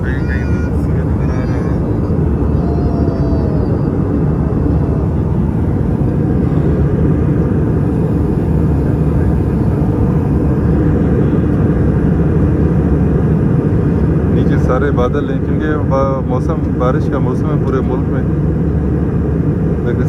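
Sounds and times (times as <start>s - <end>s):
airliner cabin roar: 0.0s - 20.0s.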